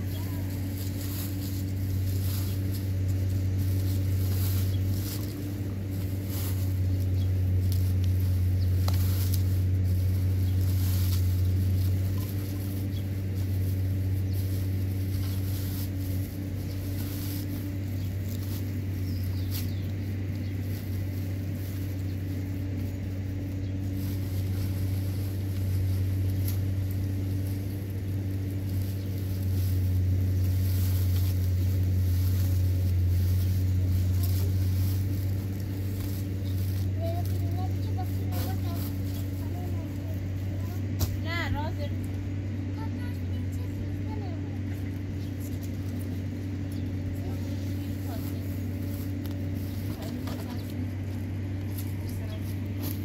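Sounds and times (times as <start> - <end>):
motor humming: 0.0 - 53.0.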